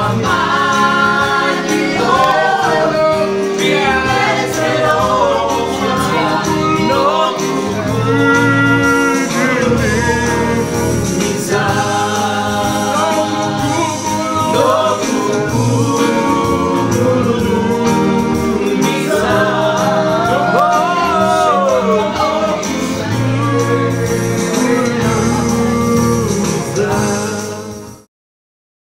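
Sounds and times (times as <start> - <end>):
gospel song with instrumental backing: 0.0 - 28.1.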